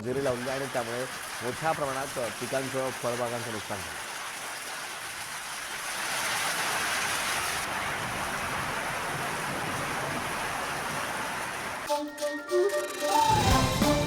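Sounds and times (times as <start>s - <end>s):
heavy rain: 0.0s - 11.9s.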